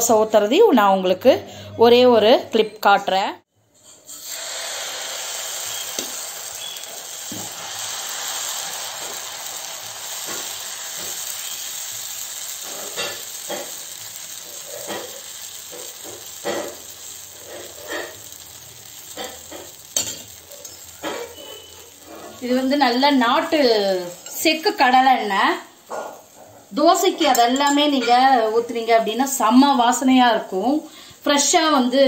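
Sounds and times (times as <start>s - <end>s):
batter sizzling on a hot pan: 3.8s - 32.0s.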